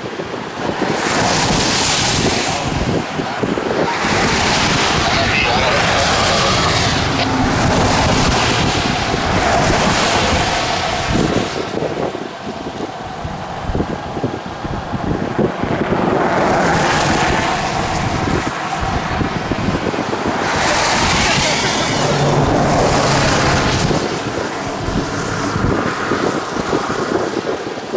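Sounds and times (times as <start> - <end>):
gusty wind buffeting microphone: 0.0 - 27.9.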